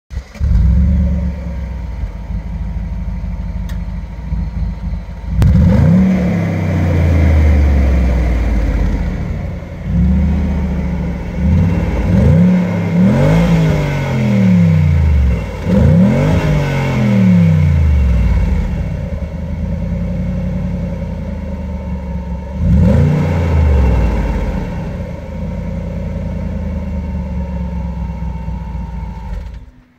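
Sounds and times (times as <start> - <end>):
car engine exhaust revving: 0.1 - 29.5.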